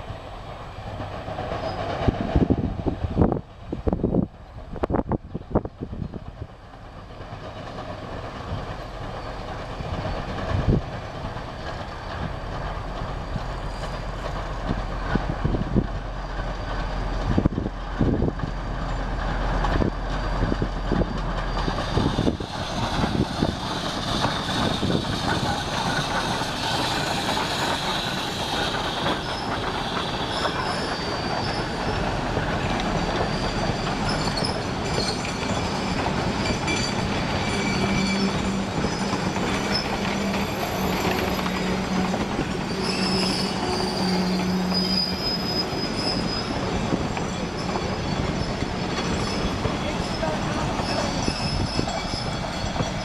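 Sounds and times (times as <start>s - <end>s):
steam locomotive working steam: 0.0s - 53.0s
train wheels squealing and clattering: 0.4s - 3.3s, 5.3s - 53.0s.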